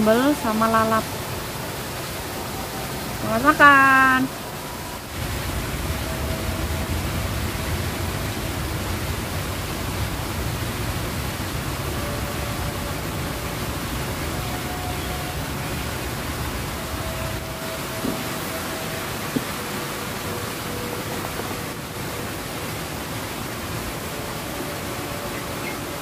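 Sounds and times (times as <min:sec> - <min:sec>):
low rushing noise: 0:00.0 - 0:26.0.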